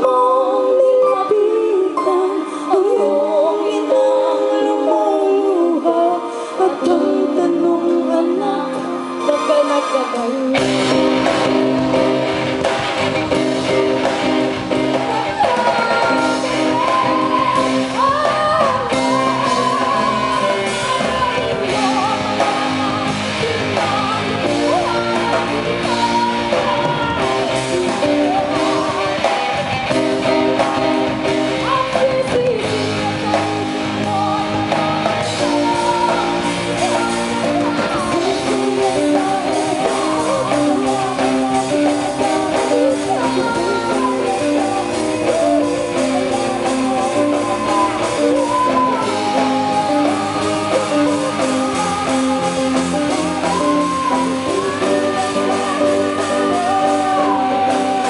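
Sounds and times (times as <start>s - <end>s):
electric guitar: 0.0s - 58.0s
keyboard: 0.0s - 58.0s
woman singing: 0.0s - 58.0s
drum kit: 8.7s - 58.0s.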